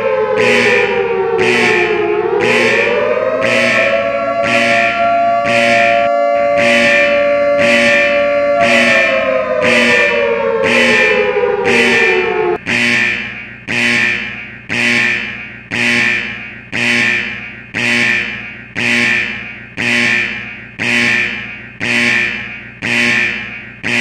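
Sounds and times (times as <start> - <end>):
synthesized alarm tone: 0.0 - 24.0.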